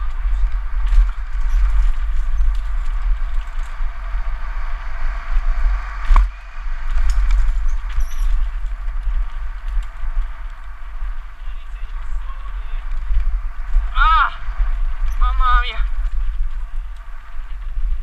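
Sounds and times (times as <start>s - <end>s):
tyres and bike rattling on dirt: 0.0s - 18.0s
wind rumble on microphone: 0.0s - 18.0s.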